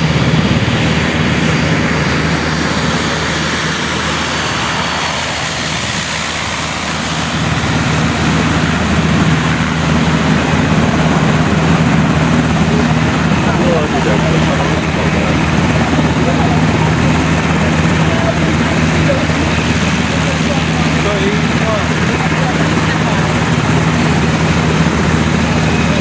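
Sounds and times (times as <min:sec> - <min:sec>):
turbine aircraft droning: 0:00.0 - 0:26.0.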